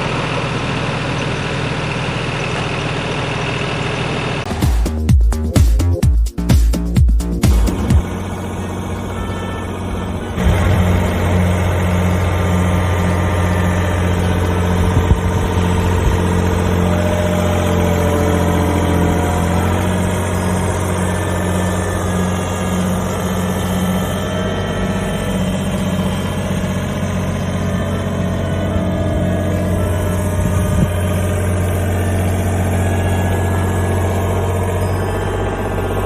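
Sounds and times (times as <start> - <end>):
excavator diesel engine idling: 0.0 - 6.0, 6.8 - 36.0.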